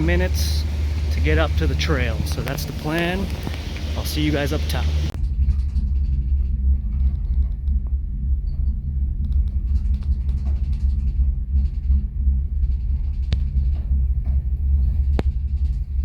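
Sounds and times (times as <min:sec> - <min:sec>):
low rumble inside cable car: 0:00.0 - 0:16.0.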